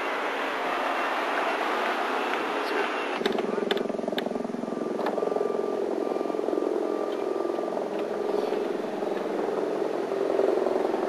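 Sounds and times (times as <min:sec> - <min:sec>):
engine running: 0:00.0 - 0:11.0
faint steady whine: 0:00.0 - 0:11.0.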